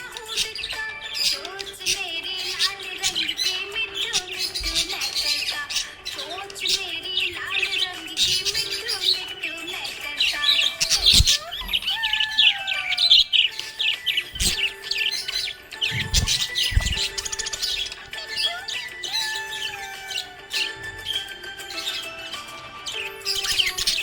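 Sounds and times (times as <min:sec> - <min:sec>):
parrots chirping: 0:00.0 - 0:24.0.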